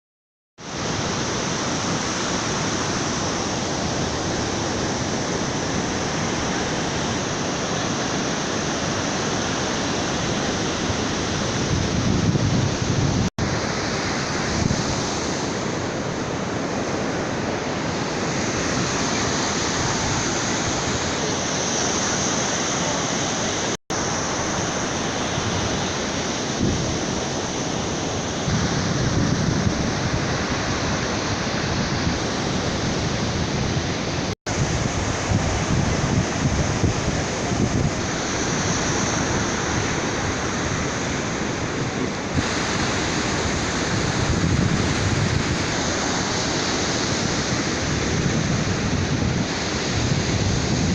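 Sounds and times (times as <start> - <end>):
rushing outdoor noise: 0.6 - 50.9.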